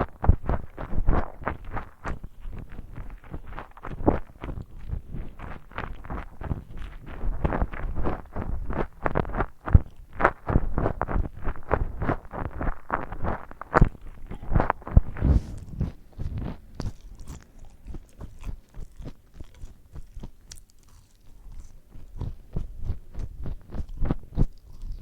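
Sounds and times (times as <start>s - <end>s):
person chewing crunchy food: 0.0s - 25.0s.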